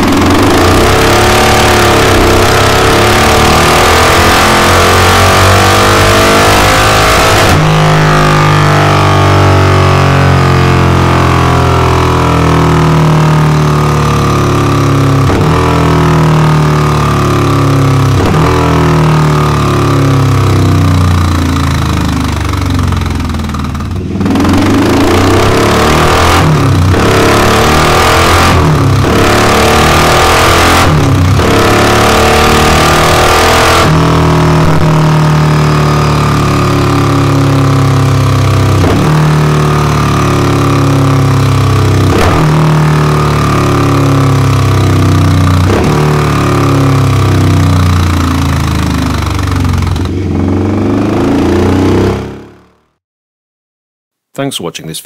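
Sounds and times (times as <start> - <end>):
motorcycle engine on a dyno: 0.0 - 53.0.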